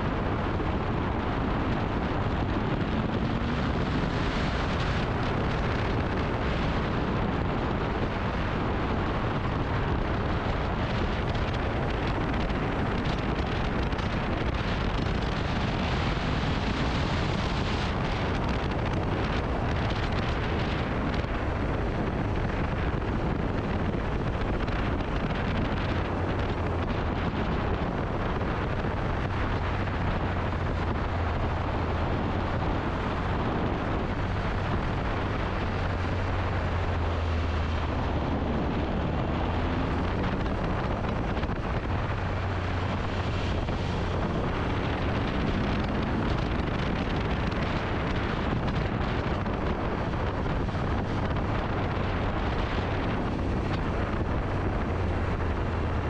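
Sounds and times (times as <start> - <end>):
motorcycle engine drone: 0.0 - 56.0
wind rushing over microphone: 0.0 - 56.0.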